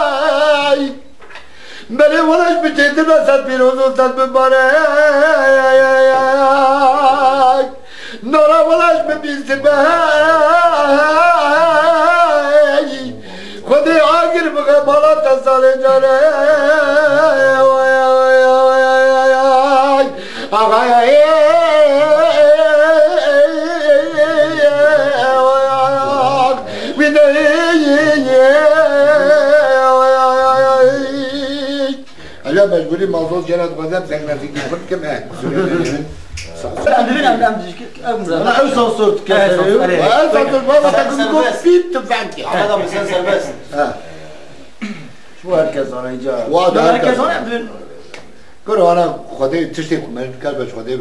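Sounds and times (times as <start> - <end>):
man singing unaccompanied: 0.0 - 1.2, 1.8 - 34.2, 36.8 - 44.1.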